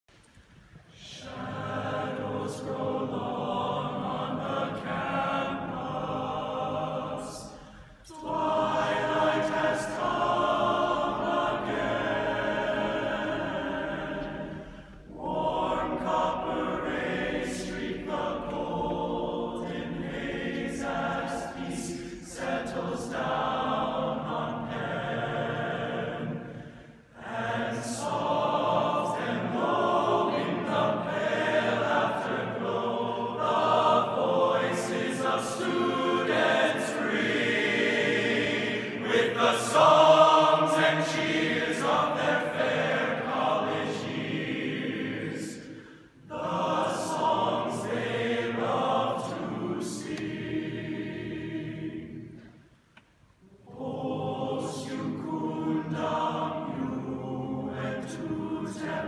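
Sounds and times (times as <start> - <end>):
choir of men singing: 1.0 - 52.6, 53.6 - 59.0.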